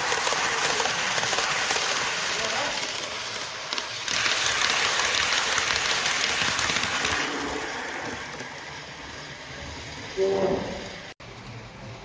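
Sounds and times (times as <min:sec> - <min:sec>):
model train wheels rattling on rails: 0:00.0 - 0:10.2.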